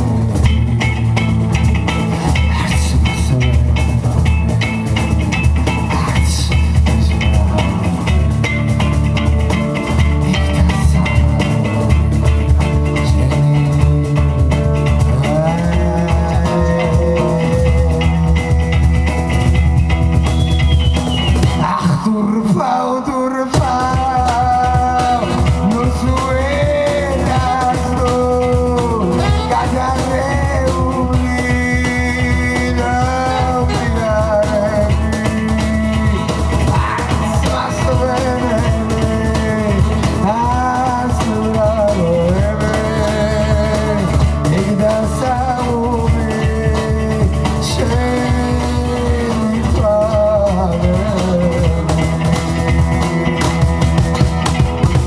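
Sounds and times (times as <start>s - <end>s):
live band playing: 0.0s - 21.9s, 23.6s - 55.0s
person singing: 9.8s - 55.0s.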